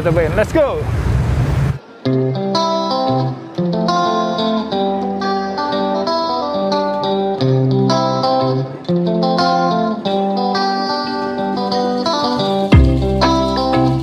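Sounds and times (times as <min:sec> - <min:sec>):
plucked guitar music: 0:01.8 - 0:14.0.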